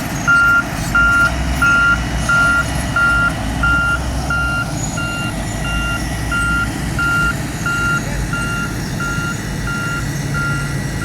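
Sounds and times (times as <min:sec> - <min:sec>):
heavy engine rumbling: 0:00.0 - 0:11.0
reversing alarm beeping: 0:00.3 - 0:11.0.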